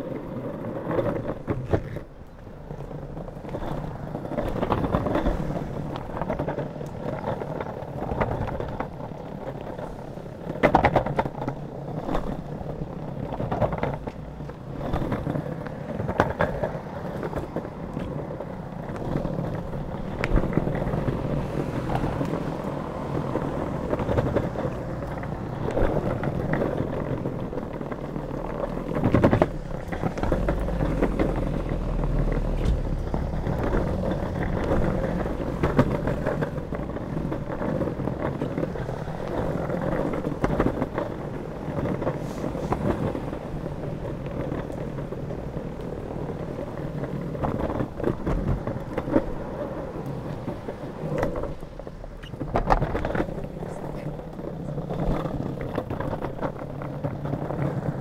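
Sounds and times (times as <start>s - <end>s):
skateboard wheels rolling on pavement: 0.0s - 58.0s
wheels knocking over joints: 0.0s - 58.0s.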